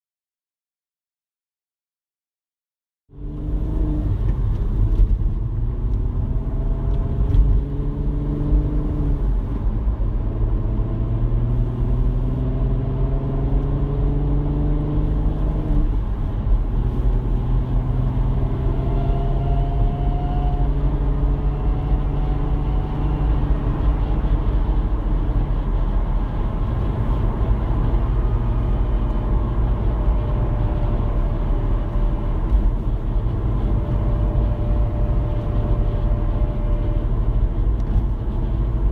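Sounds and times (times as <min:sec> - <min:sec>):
car engine running: 0:03.3 - 0:38.9.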